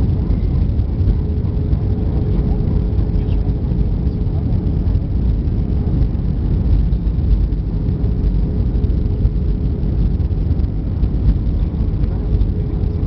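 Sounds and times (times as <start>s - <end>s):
faint constant tone: 0.0s - 13.0s
jet airliner cabin rumble: 0.0s - 13.0s.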